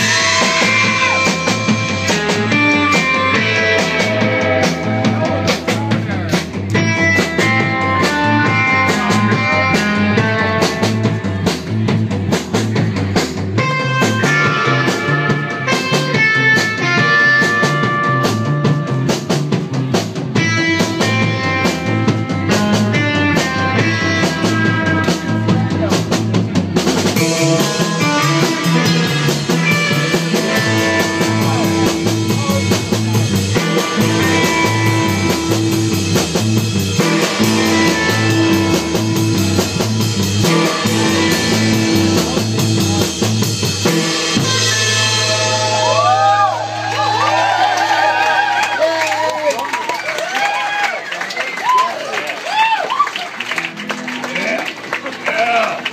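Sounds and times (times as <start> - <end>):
electric guitar: 0.0 - 49.3
drum kit beat: 0.0 - 49.4
live rock band playing: 0.0 - 55.9.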